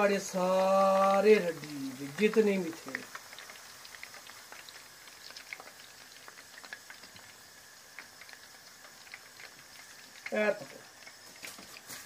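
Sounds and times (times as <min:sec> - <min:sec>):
hot oil bubbling and crackling: 0:00.0 - 0:12.0.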